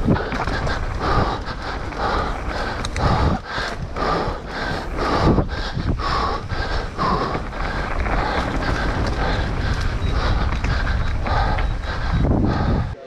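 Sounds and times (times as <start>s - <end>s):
bike tyres rolling over dirt: 0.0s - 13.0s
wind on microphone: 0.0s - 13.0s.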